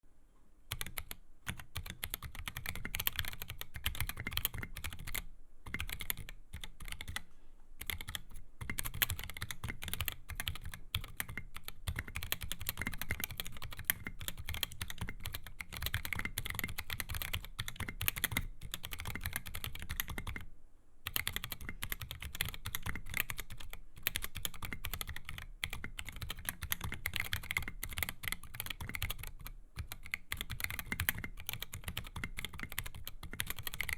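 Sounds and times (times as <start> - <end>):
mechanical keyboard typing: 0.7 - 7.2, 7.8 - 20.5, 21.1 - 33.9.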